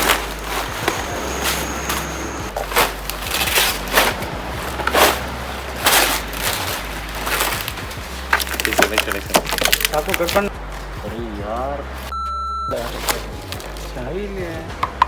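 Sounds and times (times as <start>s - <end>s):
packing material rustling and crackling: 0.0s - 10.5s, 12.7s - 14.4s.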